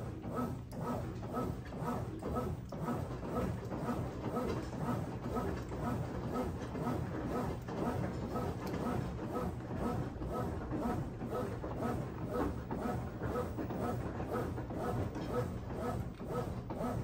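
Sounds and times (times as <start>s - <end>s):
washing machine motor whirring: 0.0s - 17.0s.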